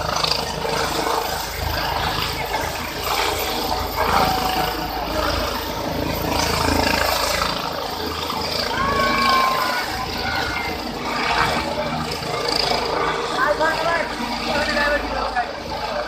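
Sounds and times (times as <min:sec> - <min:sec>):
helicopter rotor and turbine: 0:00.0 - 0:16.0
crowd noise: 0:00.5 - 0:16.0.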